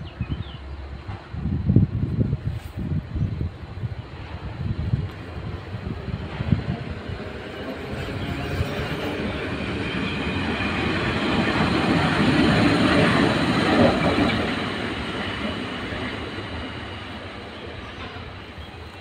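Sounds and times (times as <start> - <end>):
electric locomotive passing: 3.0 - 19.0.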